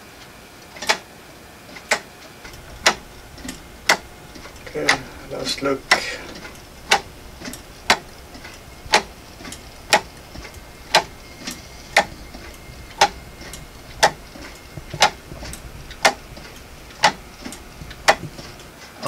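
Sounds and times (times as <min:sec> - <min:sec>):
pendulum clock ticking: 0:00.8 - 0:01.0, 0:01.8 - 0:18.7.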